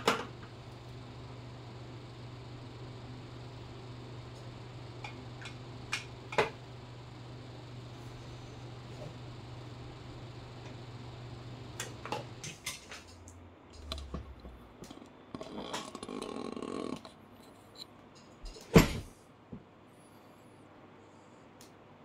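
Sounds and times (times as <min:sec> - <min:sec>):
low steady hum: 0:00.0 - 0:21.6.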